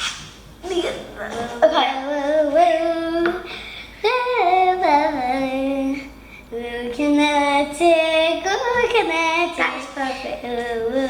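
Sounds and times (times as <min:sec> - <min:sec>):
child singing: 0:00.6 - 0:11.0.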